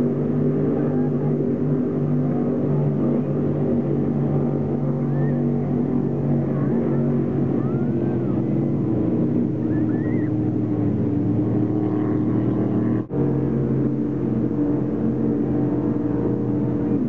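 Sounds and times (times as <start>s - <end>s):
powerboat engines droning: 0.0s - 17.0s.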